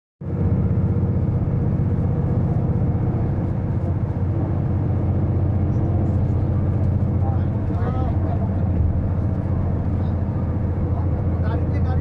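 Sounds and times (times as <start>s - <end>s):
vehicle engine and tyres rumbling: 0.2s - 12.0s.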